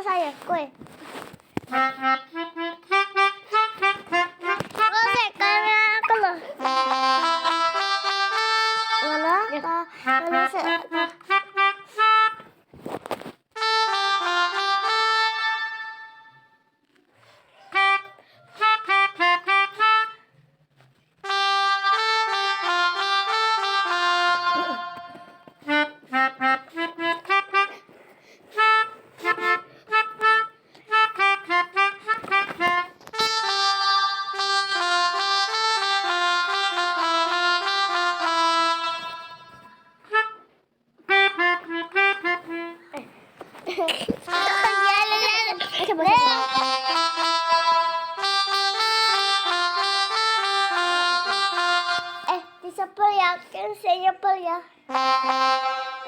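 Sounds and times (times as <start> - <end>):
melodica tune: 0.0 - 16.6, 17.7 - 20.3, 21.2 - 52.8, 54.9 - 56.0.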